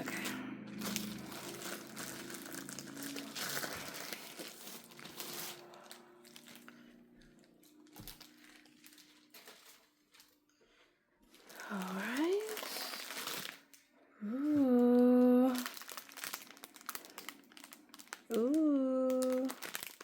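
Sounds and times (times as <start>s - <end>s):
plastic sleeve crinkling: 0.0s - 13.8s, 14.6s - 20.0s.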